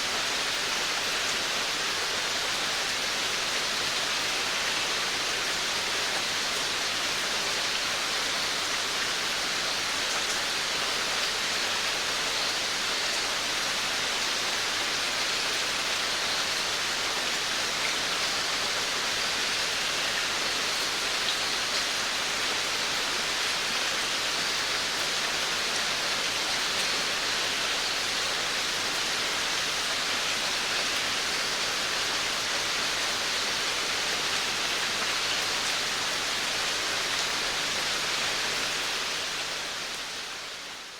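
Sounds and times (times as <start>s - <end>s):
rain falling on a veranda: 0.0s - 40.9s.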